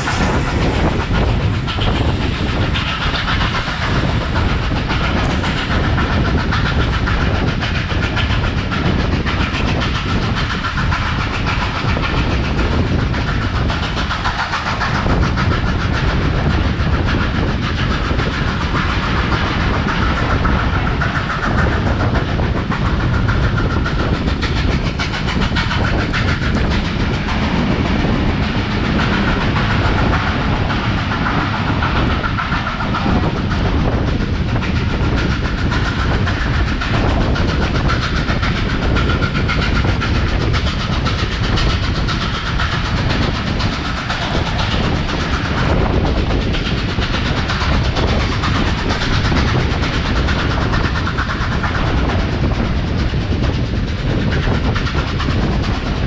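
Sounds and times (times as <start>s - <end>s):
train wheels clattering on track: 0.0s - 56.0s.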